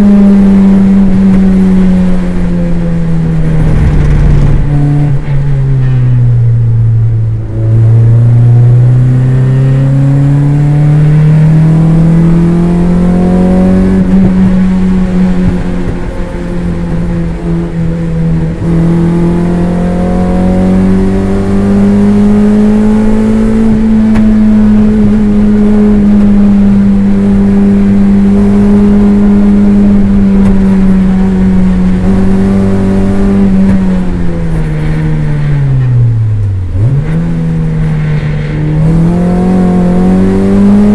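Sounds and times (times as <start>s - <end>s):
race car engine revving in cabin: 0.0s - 40.9s.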